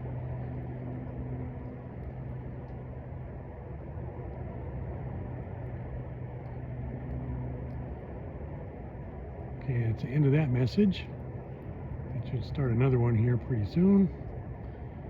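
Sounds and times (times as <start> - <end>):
low hum: 0.0 - 15.0
low outdoor rumble: 0.0 - 15.0.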